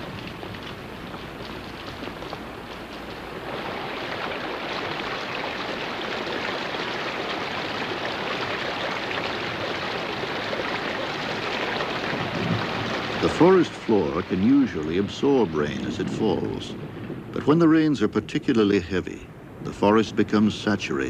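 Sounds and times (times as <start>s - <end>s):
heavy rain: 0.0s - 21.0s
running water: 0.0s - 21.0s.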